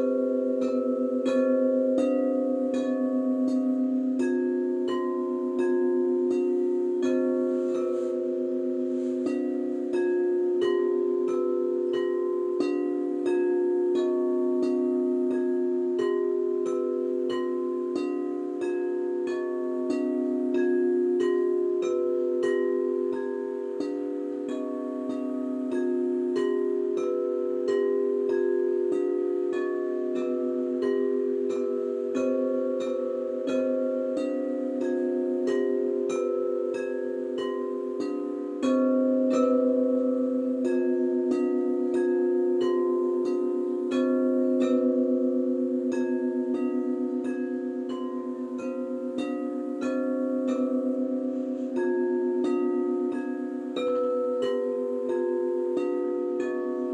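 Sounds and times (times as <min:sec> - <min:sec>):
crystal singing bowls ringing: 0:00.0 - 0:56.9.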